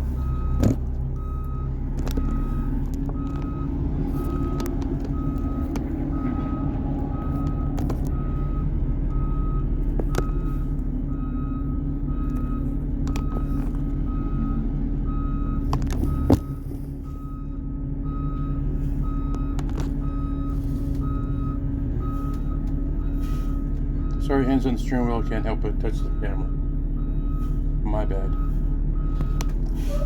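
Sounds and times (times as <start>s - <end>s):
bus backup alarm beeping: 0.0s - 30.0s
bus engine running: 0.0s - 30.0s.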